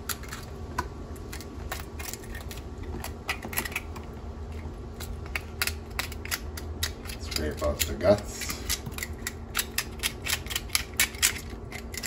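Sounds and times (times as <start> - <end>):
knife scraping crab shell: 1.3 - 4.0, 5.0 - 12.0.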